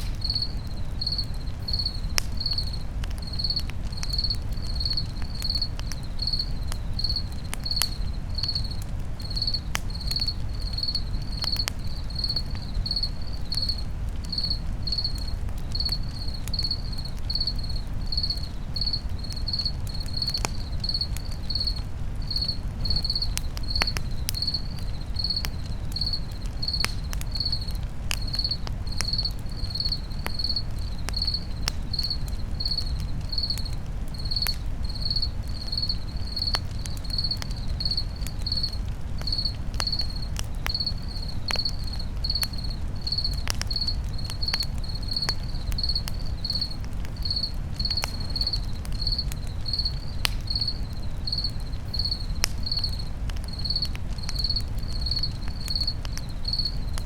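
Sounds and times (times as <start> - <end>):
campfire crackling and popping: 0.0 - 57.0
cricket chirping: 0.0 - 57.0.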